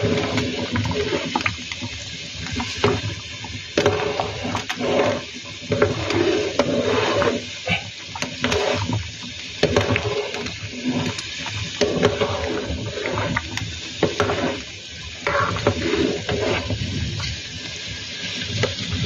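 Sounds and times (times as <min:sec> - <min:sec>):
thick liquid sloshing: 0:00.0 - 0:01.8, 0:02.4 - 0:07.6, 0:08.2 - 0:17.4.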